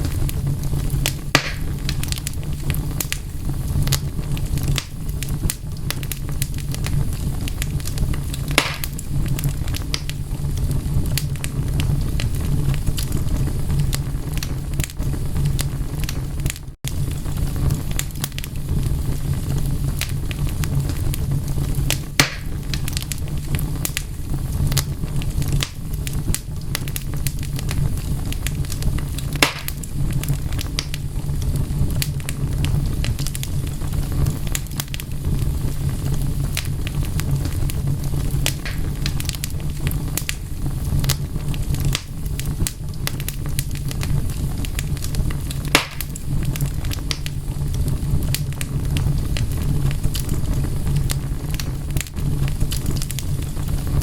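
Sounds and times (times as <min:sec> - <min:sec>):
fire pops: 0:00.0 - 0:54.0
wood fire crackling: 0:00.0 - 0:54.0.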